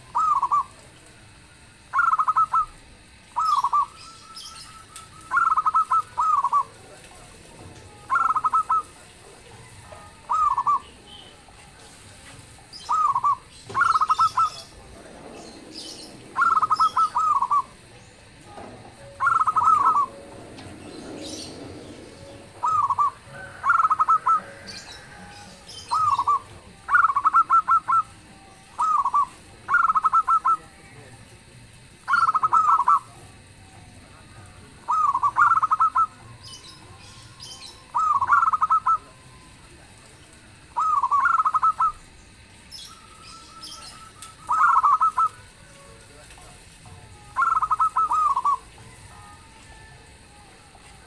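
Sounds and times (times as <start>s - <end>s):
dove cooing: 0.0s - 0.9s, 1.8s - 31.1s, 32.0s - 46.1s, 47.0s - 51.0s.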